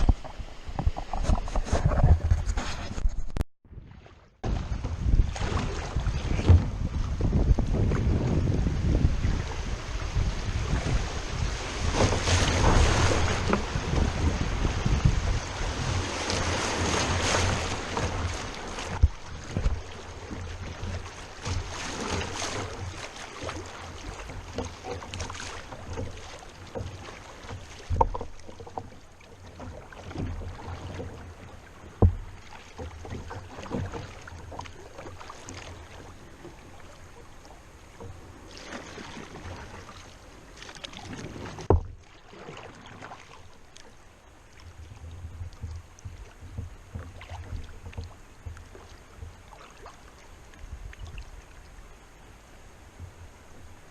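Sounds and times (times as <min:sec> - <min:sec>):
paddle and hull in water: 0:00.0 - 0:53.9.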